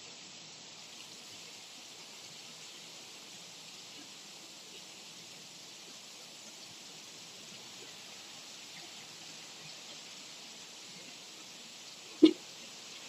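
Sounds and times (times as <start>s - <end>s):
light rain hissing: 0.0s - 13.0s.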